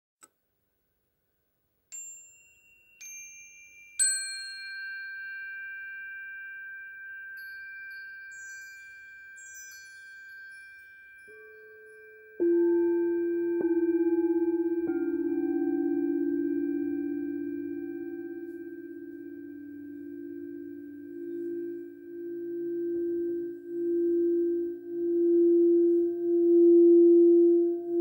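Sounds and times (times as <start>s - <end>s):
faint high tinkling: 1.7s - 28.0s
chime bars ringing: 1.9s - 28.0s
crystal singing bowl ringing: 1.9s - 28.0s.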